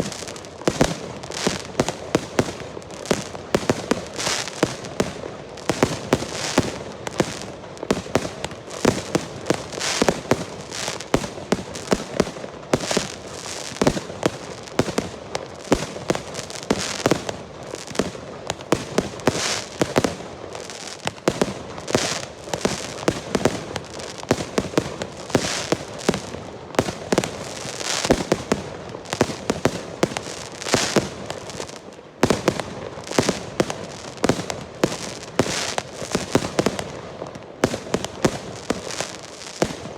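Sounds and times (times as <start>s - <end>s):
firework crackle and hiss: 0.0s - 39.9s.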